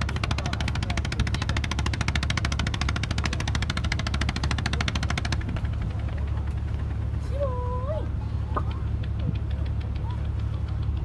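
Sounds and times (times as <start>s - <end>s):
rapid ticking clatter: 0.0s - 7.1s, 8.5s - 11.0s
boat engine rumble: 0.0s - 11.0s.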